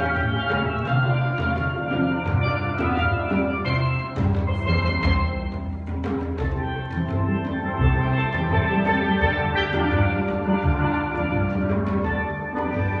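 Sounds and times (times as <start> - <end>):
steel band playing: 0.0 - 13.0.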